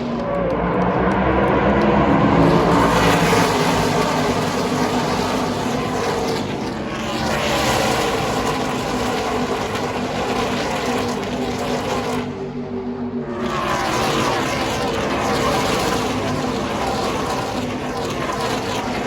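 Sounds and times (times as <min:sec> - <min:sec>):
race truck engines passing: 0:00.0 - 0:19.0.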